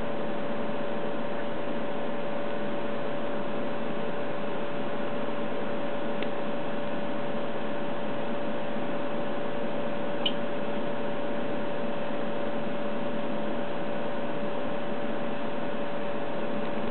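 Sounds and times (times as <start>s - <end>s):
electrical hum and hiss: 0.0s - 16.9s.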